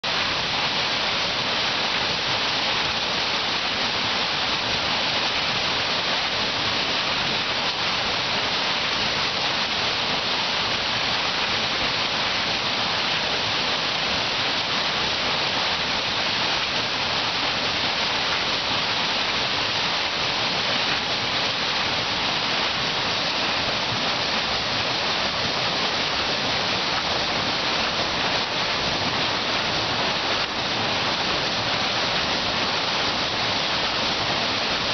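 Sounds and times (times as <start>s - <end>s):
water rushing and churning: 0.0s - 34.9s.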